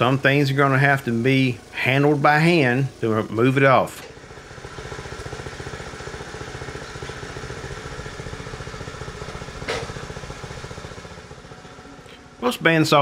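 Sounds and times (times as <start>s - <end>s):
sawmill engine pulsing: 0.0s - 13.0s.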